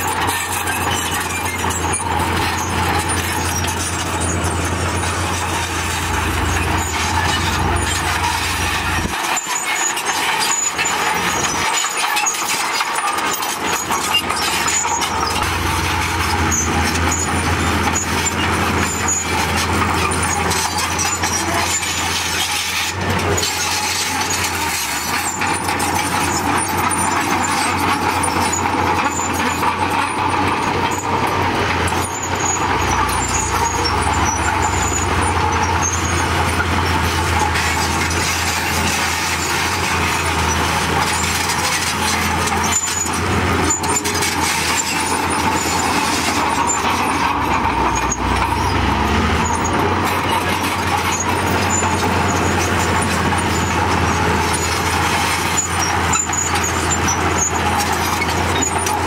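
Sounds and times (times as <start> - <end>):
bulldozer diesel engine running: 0.0 - 59.0
steel tracks clattering: 0.0 - 59.0.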